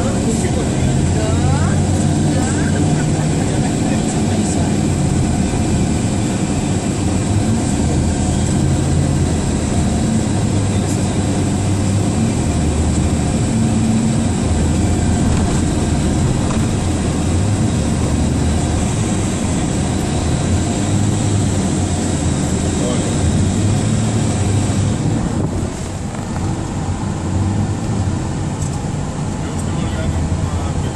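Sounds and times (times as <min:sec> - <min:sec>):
car engine hum: 0:00.0 - 0:30.9
road noise: 0:00.0 - 0:30.9.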